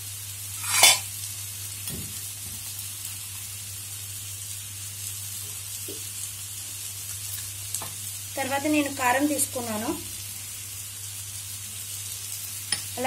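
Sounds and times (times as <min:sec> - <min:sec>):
onions and tomatoes sizzling: 0:00.0 - 0:13.0.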